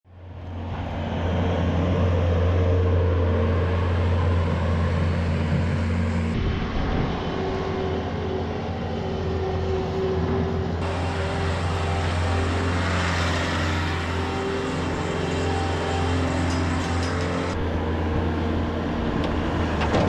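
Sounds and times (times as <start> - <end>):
diesel engine droning: 0.1 - 20.0.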